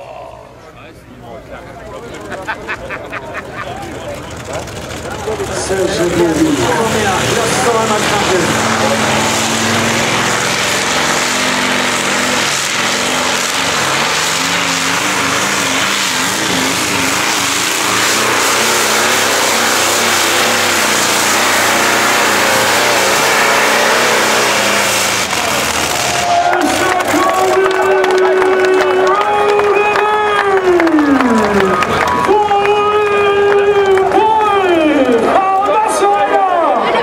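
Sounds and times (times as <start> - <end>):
tractor pulling engine roaring: 0.0 - 37.0.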